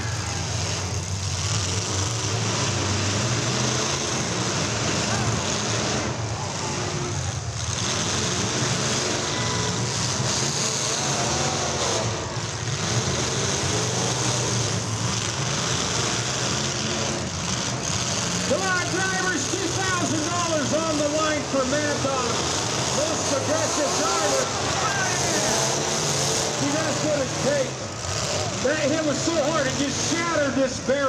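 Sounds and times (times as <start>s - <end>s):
car engines running: 0.0s - 31.0s.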